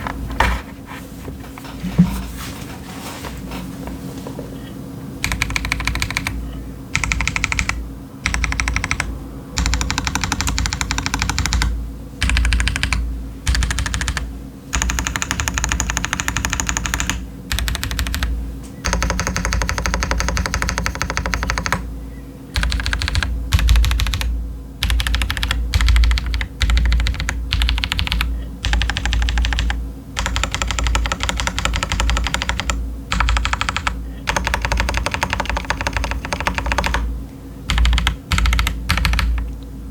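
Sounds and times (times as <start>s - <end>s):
mechanical keyboard typing: 5.2s - 21.8s, 22.6s - 37.1s, 37.7s - 39.5s.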